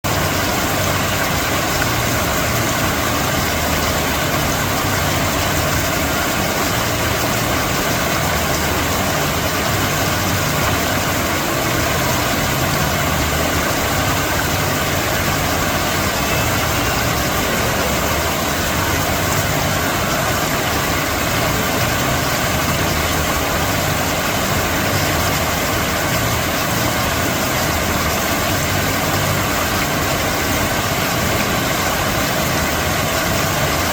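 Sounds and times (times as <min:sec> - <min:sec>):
water fountain splashing: 0:00.0 - 0:33.9.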